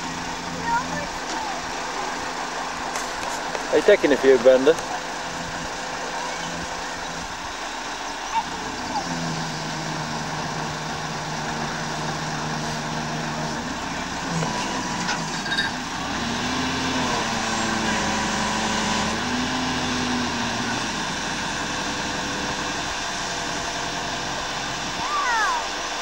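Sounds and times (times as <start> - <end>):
crane diesel engine running: 0.0 - 26.0.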